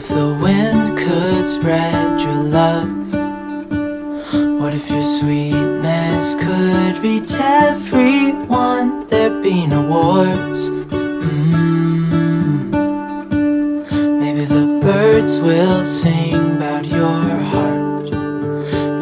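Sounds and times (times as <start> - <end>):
person singing: 0.0 - 3.5, 4.1 - 19.0
acoustic guitar song: 0.0 - 19.0.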